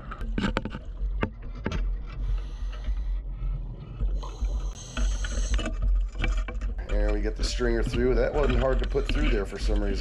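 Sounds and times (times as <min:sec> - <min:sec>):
low steady underwater rumble: 0:00.0 - 0:10.0.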